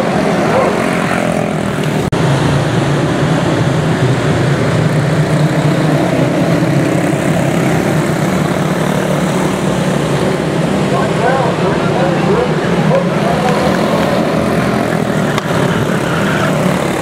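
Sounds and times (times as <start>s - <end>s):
race car engines buzzing: 0.0s - 17.0s.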